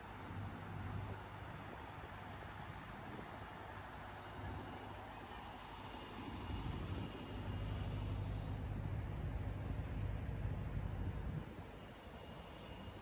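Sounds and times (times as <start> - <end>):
heavy vehicle engine rumble: 0.0 - 13.0
street traffic noise: 0.0 - 13.0.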